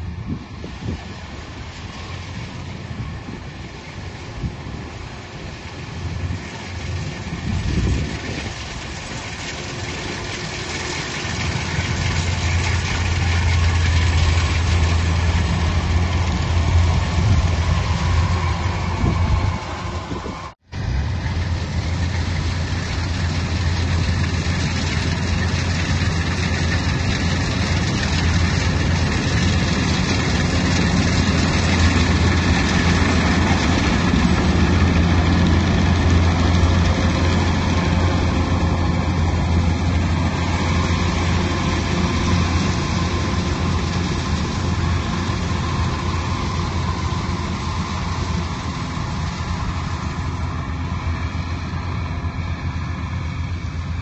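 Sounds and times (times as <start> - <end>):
heavy machine engine humming: 0.0 - 54.0.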